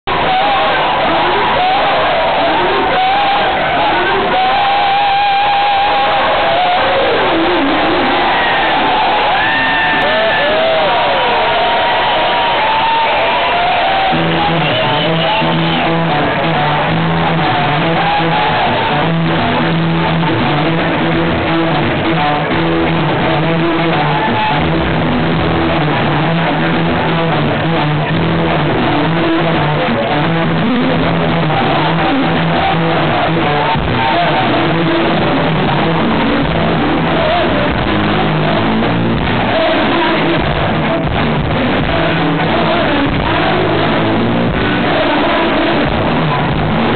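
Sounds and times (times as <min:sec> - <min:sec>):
bass guitar line: 0:00.0 - 0:46.9
drum kit: 0:00.0 - 0:46.9
electric guitar: 0:00.0 - 0:46.9.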